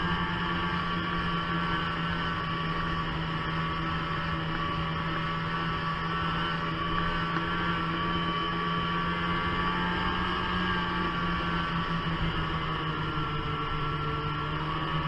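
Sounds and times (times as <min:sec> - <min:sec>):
muffled snowmobile engine: 0:00.0 - 0:15.0.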